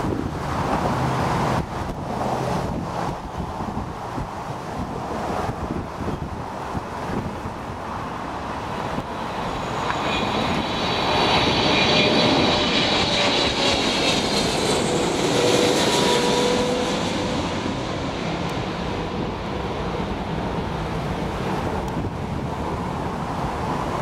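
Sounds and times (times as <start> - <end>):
jet airliner passing by: 0.0 - 24.0.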